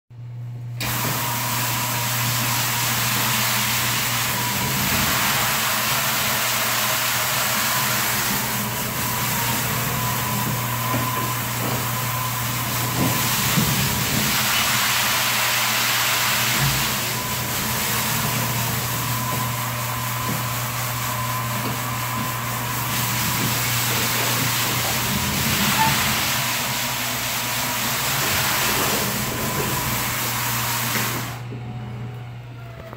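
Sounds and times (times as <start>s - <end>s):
floor scrubber running: 0.8s - 32.9s.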